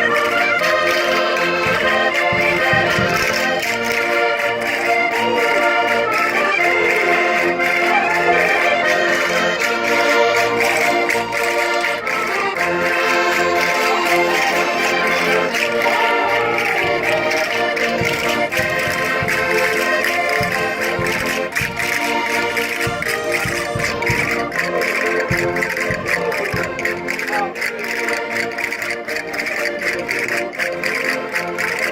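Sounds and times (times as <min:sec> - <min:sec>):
accordions playing folk dance tune: 0:00.0 - 0:31.9.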